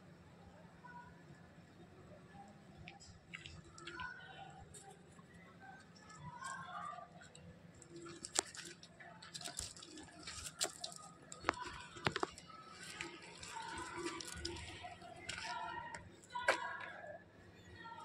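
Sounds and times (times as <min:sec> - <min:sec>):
faint voices: 0:00.0 - 0:18.0.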